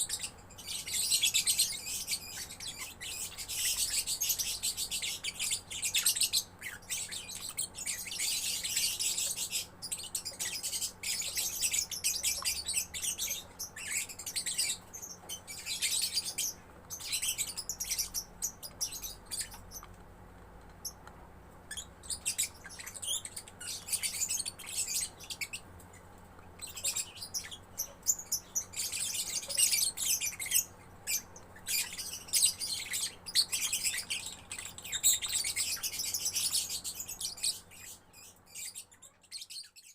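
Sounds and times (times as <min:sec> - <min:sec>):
lovebird chirping: 0:00.0 - 0:19.9, 0:21.7 - 0:39.9.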